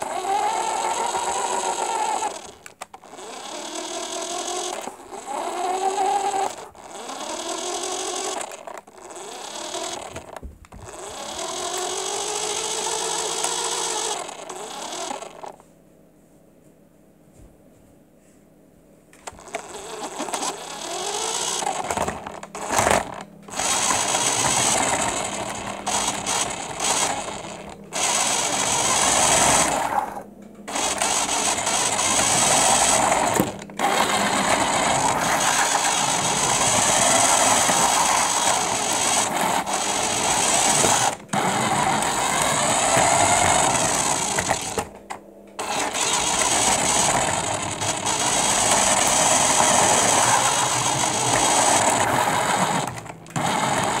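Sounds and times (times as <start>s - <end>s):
toy car motor whirring: 0.0s - 15.6s, 19.2s - 45.0s, 45.6s - 54.0s.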